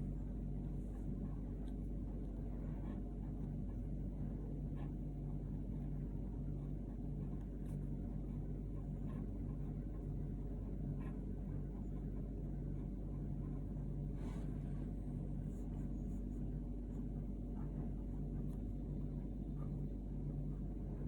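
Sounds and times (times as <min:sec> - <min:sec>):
low rumble with droning hum: 0:00.0 - 0:21.0.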